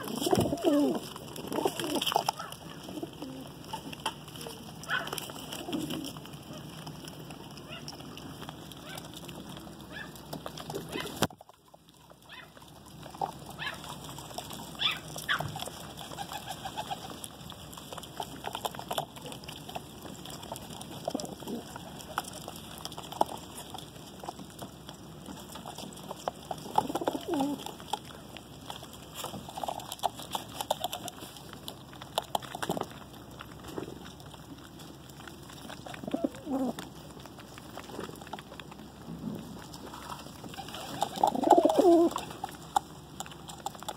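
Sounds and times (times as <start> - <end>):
pigeons cooing: 0.0 - 11.3, 12.2 - 31.5, 35.5 - 42.8
beaks pecking at grain: 0.0 - 43.9.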